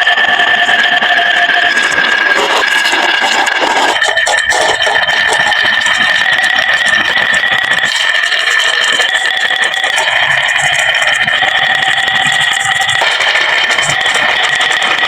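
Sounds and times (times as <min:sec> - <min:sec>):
marbles clacking together: 0:00.0 - 0:15.0
marbles rolling on wooden track: 0:00.0 - 0:15.0.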